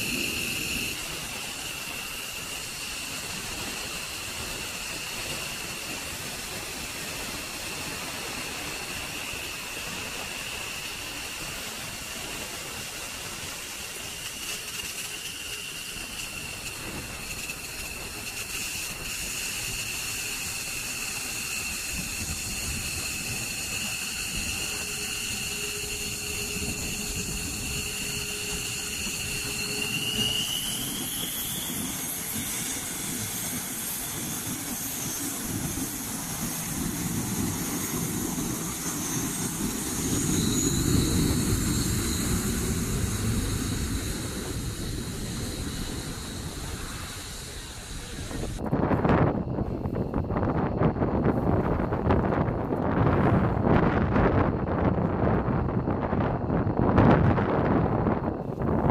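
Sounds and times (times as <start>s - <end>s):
jet engines idling whine: 0.0s - 58.9s
low steady jet tone: 0.0s - 58.9s.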